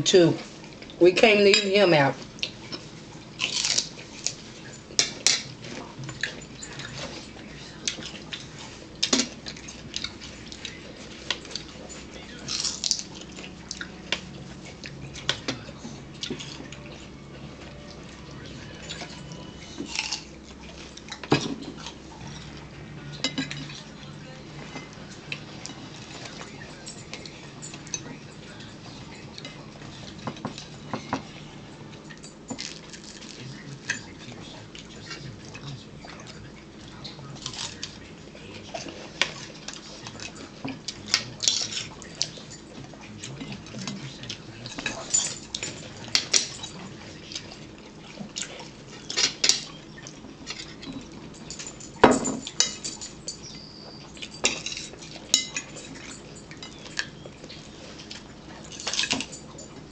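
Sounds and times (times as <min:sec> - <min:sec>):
cutlery scraping and clinking on plate: 0:02.5 - 0:59.9.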